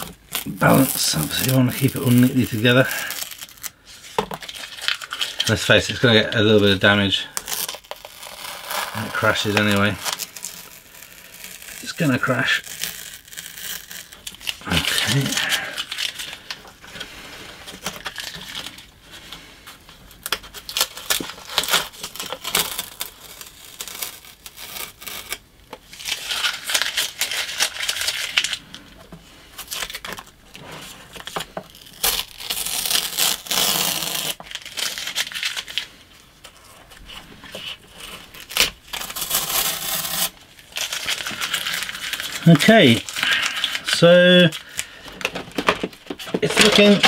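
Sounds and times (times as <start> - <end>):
crinkling of used tape: 0.0 - 47.0
tape being peeled off: 0.0 - 47.0.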